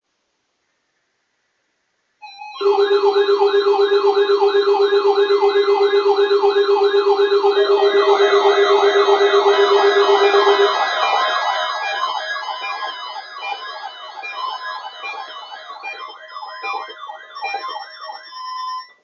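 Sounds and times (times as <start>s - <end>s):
fast-warbling siren tones: 2.2s - 19.0s
steady low alarm tone: 2.2s - 19.0s.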